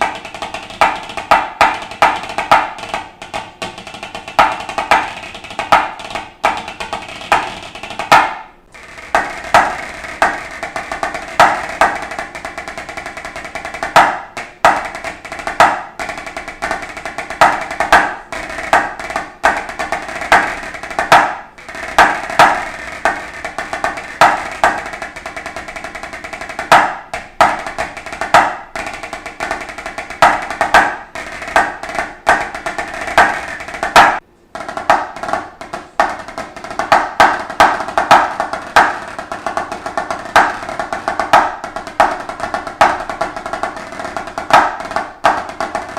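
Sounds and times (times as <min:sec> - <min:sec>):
drumsticks on practice pad: 0:00.0 - 0:45.9.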